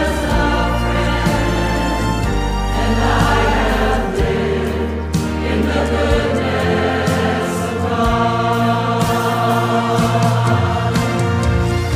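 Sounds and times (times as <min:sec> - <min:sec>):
choir-like singing: 0:00.0 - 0:11.9.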